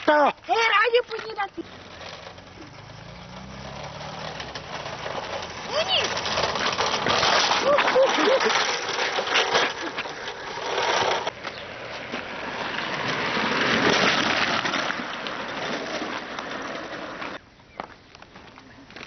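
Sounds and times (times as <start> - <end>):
wheels crunching over gravel: 0.0 - 19.0.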